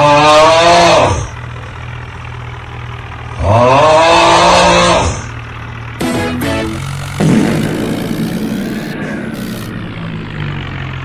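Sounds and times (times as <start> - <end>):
engine idling: 0.0 - 11.0
engine revving: 0.0 - 11.0.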